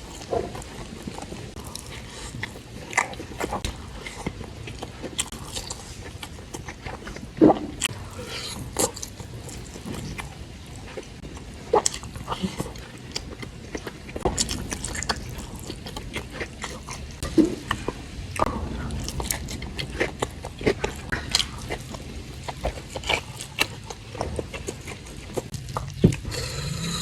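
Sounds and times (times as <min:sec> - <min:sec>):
chewing and biting: 0:00.0 - 0:27.0.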